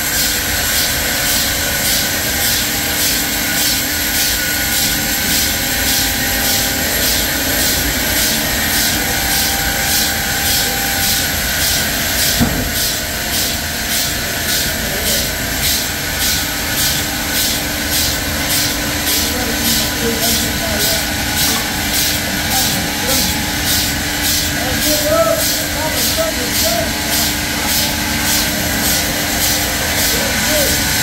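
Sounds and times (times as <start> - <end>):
sawmill machinery drone: 0.0 - 31.0.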